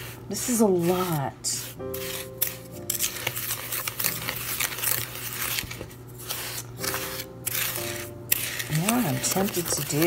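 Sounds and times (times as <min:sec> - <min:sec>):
spoon stirring in plastic bowl: 0:00.0 - 0:10.0.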